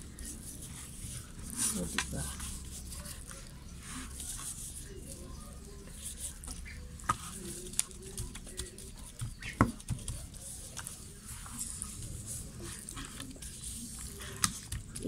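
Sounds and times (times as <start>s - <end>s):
hands rustling and patting flour: 0.1s - 15.0s.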